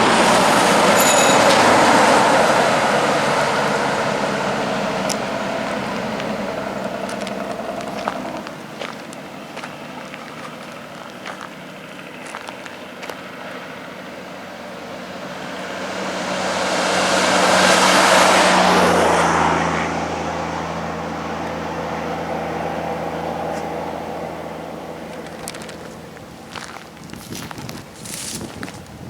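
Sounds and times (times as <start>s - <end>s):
heavy truck passing: 0.0s - 29.0s
steady engine drone: 0.0s - 29.0s.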